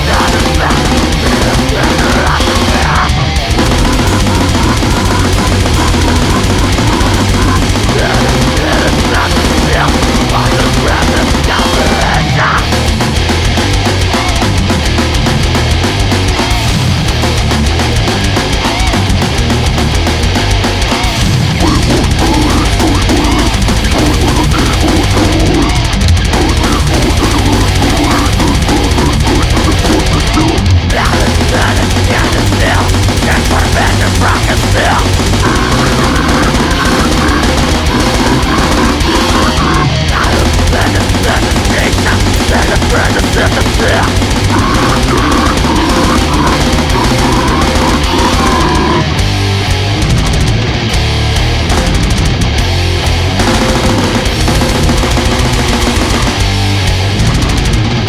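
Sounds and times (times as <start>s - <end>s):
distorted guitars: 0.0s - 58.0s
fast drumming: 0.0s - 58.0s.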